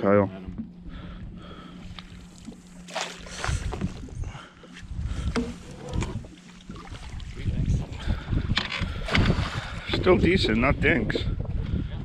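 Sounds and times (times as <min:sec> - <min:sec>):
steady low hum: 0:00.0 - 0:12.0
bumps and rustles in boat: 0:00.4 - 0:12.0
water lapping against boat hull: 0:00.4 - 0:12.0.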